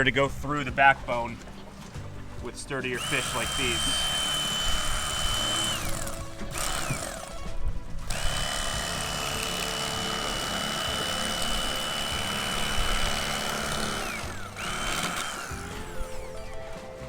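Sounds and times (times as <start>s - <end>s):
electric knife whining: 3.0s - 17.0s.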